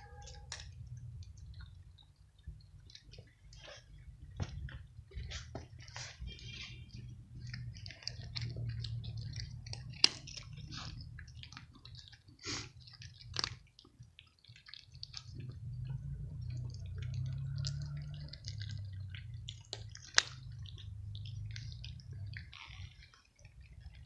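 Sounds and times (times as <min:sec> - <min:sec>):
cats crunching dry kibble: 0:00.0 - 0:24.0.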